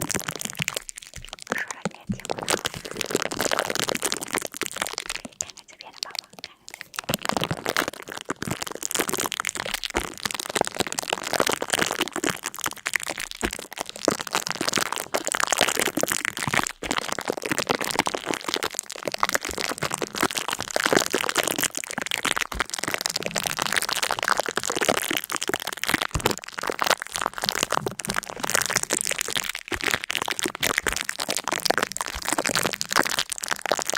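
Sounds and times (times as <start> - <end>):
dense crackling: 0.0 - 33.9.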